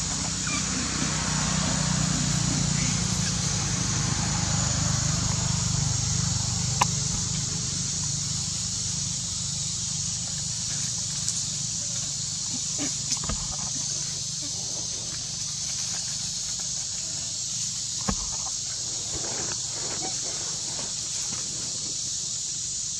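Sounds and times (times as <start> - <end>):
high hiss: 0.0 - 22.9.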